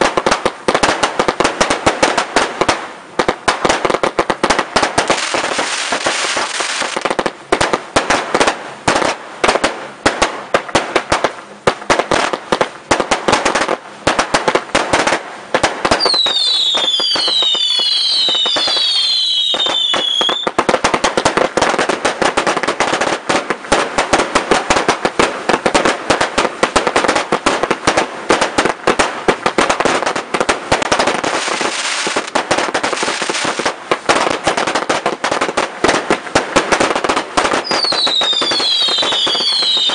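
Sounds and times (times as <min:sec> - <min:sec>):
fireworks bangs and crackling: 0:00.0 - 0:39.9
whistling fireworks: 0:00.0 - 0:39.9.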